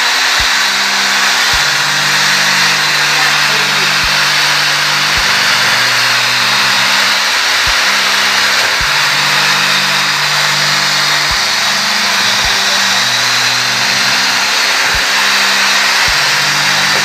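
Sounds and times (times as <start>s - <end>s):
electric drill boring into wood: 0.0s - 17.0s.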